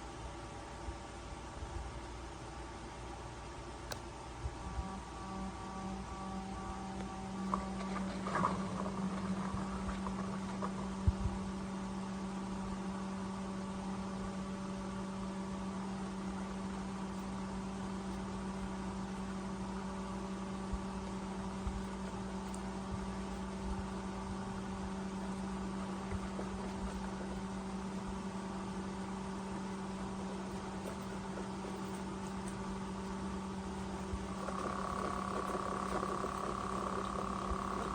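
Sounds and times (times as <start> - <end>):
electrical hum: 0.0 - 37.9.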